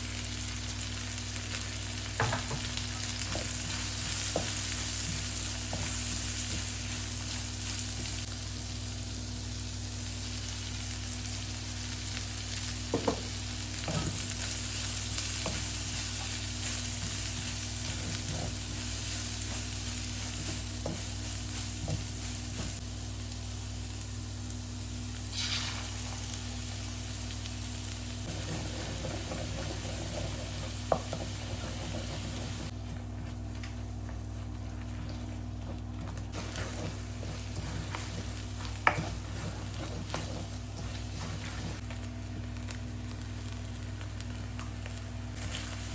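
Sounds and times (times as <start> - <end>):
food sizzling in a hot pan: 0.0 - 32.7, 36.3 - 45.9
steady low hum: 0.0 - 45.9.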